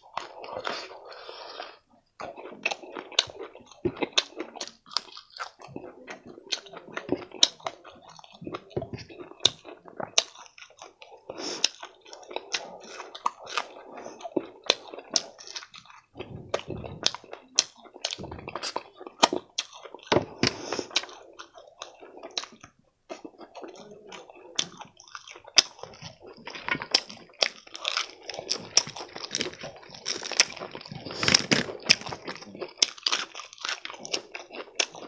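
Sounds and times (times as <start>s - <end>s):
chewing fried food: 0.0s - 35.0s
food crunch: 0.0s - 35.0s.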